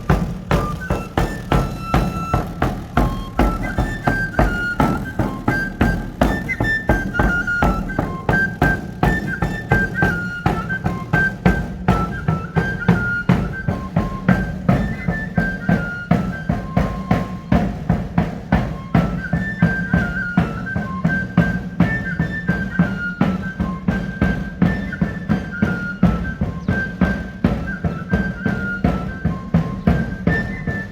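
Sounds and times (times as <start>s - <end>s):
drum beating quick rhythm: 0.0s - 30.9s
high flute melody: 0.0s - 30.9s.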